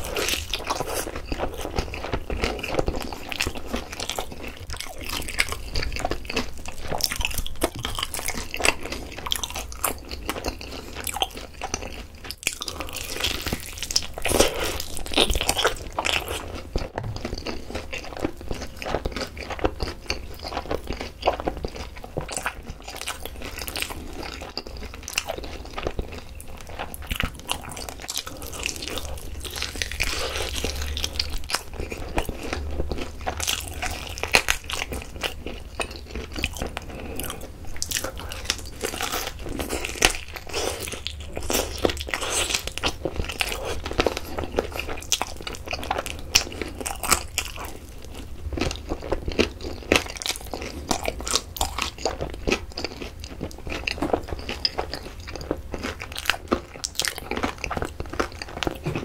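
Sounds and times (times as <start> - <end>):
crackly mouth sounds: 0.0 - 59.0
crunchy bites and chewing: 0.0 - 59.0.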